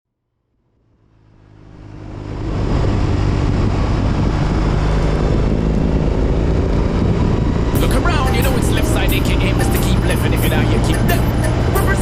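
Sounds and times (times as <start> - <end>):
motorcycle engine running: 0.6 - 12.0.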